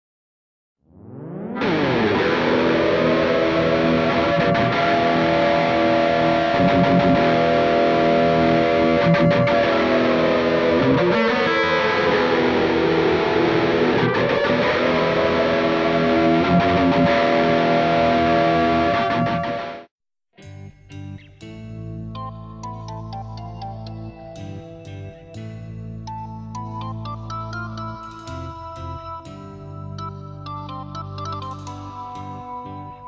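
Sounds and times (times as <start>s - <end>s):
distorted electric guitar: 0.9s - 33.0s.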